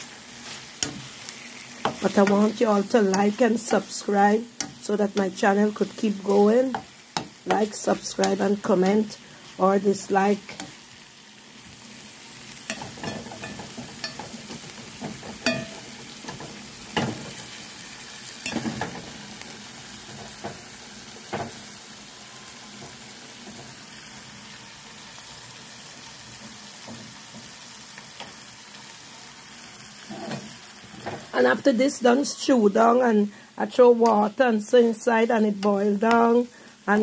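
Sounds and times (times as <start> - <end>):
food sizzling in a pot: 0.0 - 37.0.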